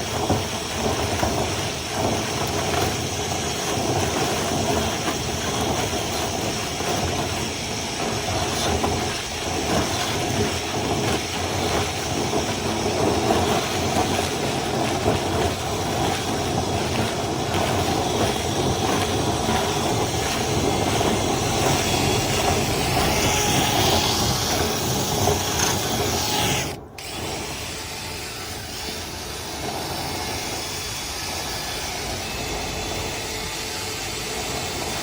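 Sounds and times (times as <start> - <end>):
power tool rattling: 0.0 - 35.0
quieter steady running noise: 0.0 - 35.0.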